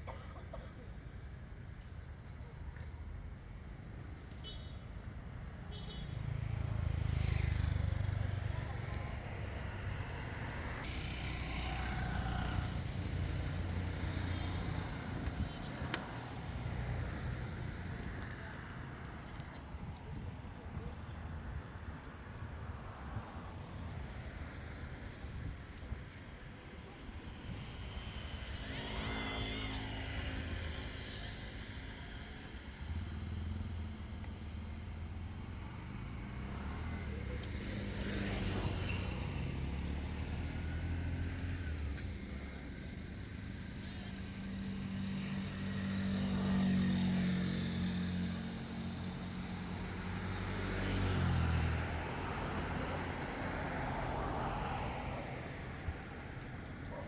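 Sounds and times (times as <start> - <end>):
motor vehicle engines running: 6.4 - 57.0.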